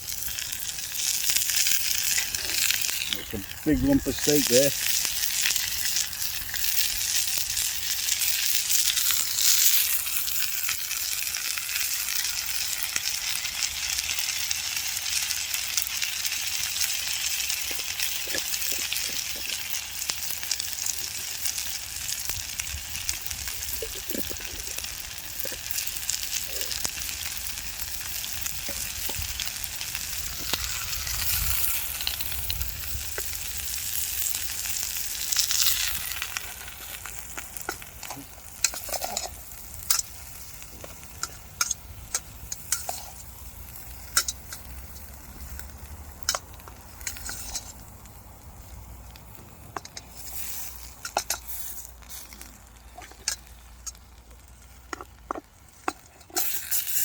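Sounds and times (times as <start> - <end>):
steak sizzling in a pan: 0.0 - 57.0.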